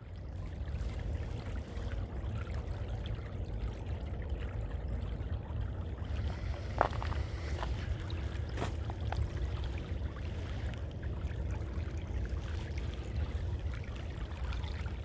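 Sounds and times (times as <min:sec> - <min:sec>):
meltwater stream trickling: 0:00.0 - 0:15.0.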